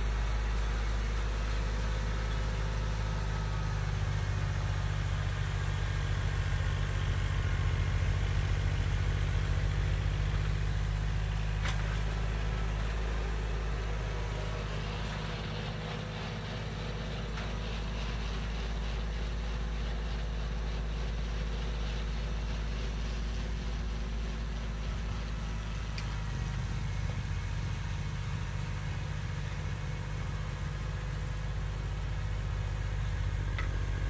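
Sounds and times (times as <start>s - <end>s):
tractor diesel engine rumbling: 0.0s - 34.0s.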